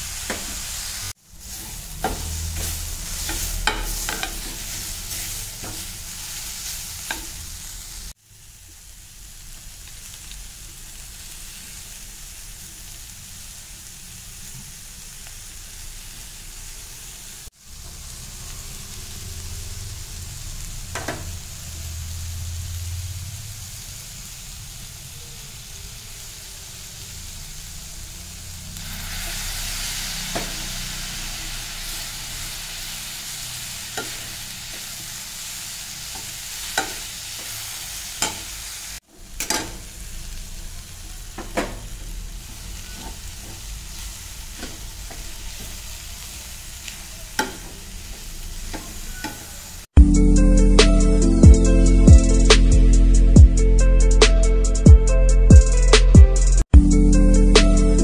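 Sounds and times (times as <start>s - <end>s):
food sizzling in a frying pan: 0.0s - 50.0s.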